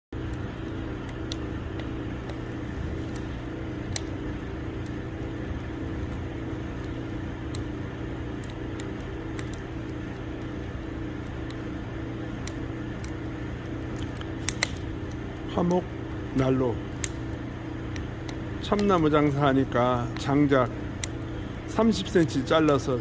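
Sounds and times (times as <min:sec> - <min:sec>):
firewood crackling and popping: 0:00.1 - 0:23.0
low hum: 0:00.1 - 0:23.0.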